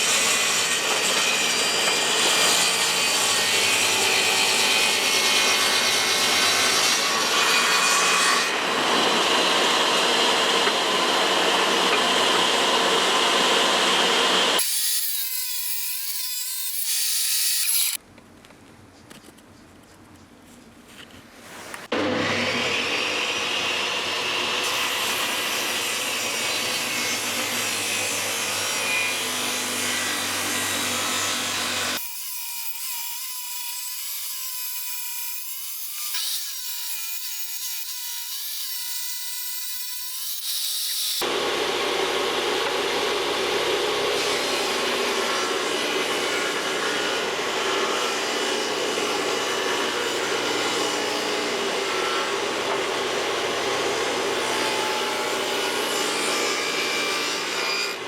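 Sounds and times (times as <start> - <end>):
power tool sawing or grinding: 0.0 - 18.0, 21.9 - 58.0.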